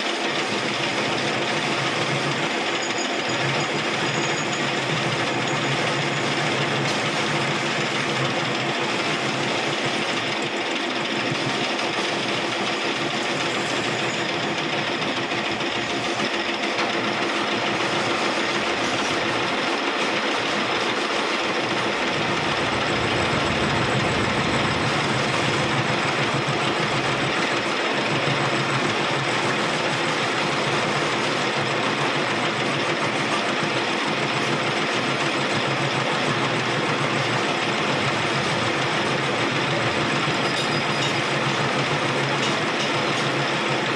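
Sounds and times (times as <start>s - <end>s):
metalworking machine crackle and hum: 0.0s - 43.9s.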